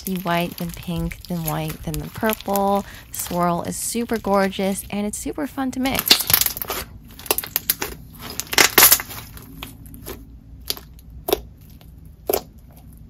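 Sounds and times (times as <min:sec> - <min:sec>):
hands squishing slime: 0:00.0 - 0:04.8, 0:05.8 - 0:13.0.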